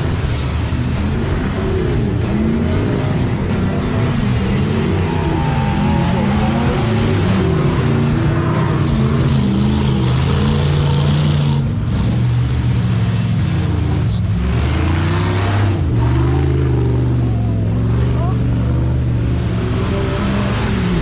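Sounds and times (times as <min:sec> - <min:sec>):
race vehicle engine revving: 0:00.0 - 0:21.0.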